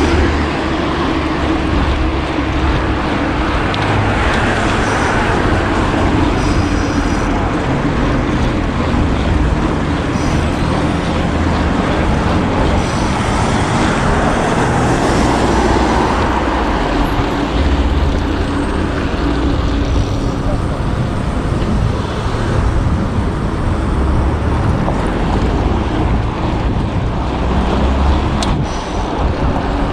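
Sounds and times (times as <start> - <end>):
low engine hum: 0.0 - 29.9
passing cars: 0.0 - 29.9.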